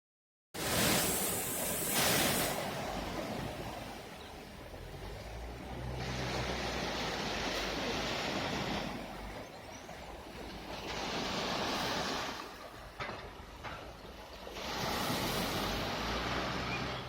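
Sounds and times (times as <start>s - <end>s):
waves washing onto shore: 0.6s - 17.0s.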